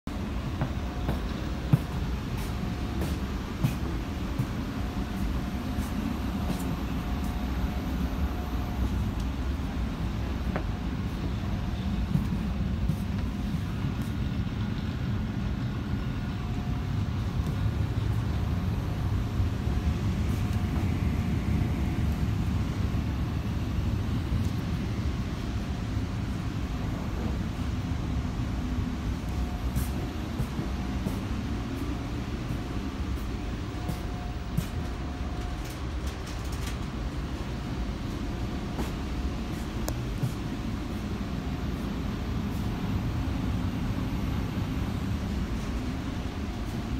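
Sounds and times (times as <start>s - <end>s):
subway car rumble: 0.0s - 46.9s
faint steady hum: 0.1s - 46.9s.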